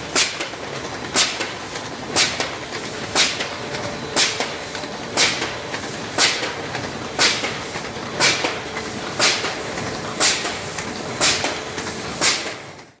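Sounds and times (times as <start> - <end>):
folding and gluing machine running: 0.0 - 13.0.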